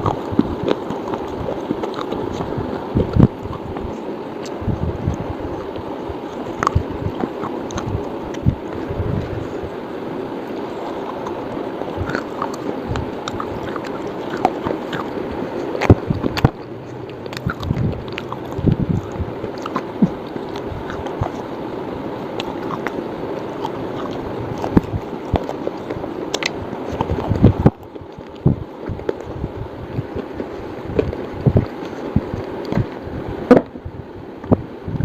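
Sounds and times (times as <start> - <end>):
chewing crunches and cracks: 0.0 - 9.6, 10.5 - 21.5, 22.2 - 33.0.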